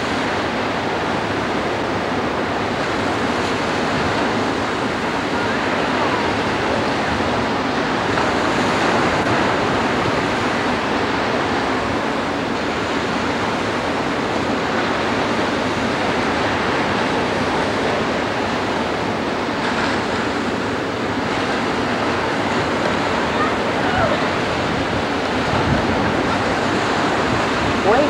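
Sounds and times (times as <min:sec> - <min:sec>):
small surf on sandy beach: 0:00.0 - 0:28.0
wind buffeting microphone: 0:00.0 - 0:28.0.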